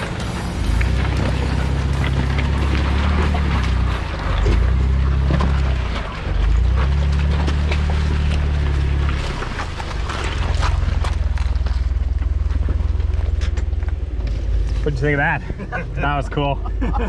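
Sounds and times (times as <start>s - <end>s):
car engine running at low revs: 0.0s - 17.0s
tyres crunching on gravel: 0.0s - 17.0s.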